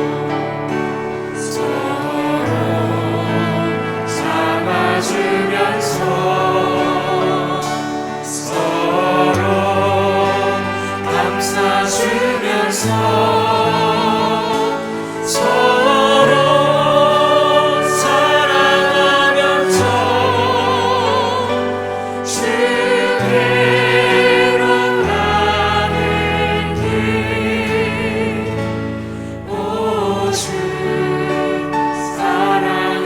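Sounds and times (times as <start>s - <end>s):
choir singing a hymn: 0.0s - 33.0s.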